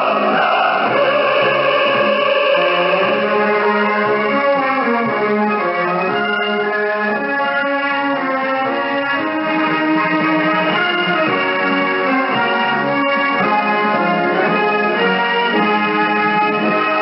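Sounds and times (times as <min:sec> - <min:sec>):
orchestral music over radio: 0:00.0 - 0:17.0.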